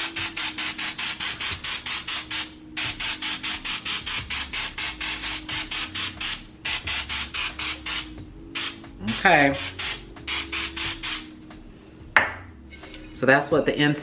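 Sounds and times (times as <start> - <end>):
aerosol spray hissing: 0.0 - 11.3.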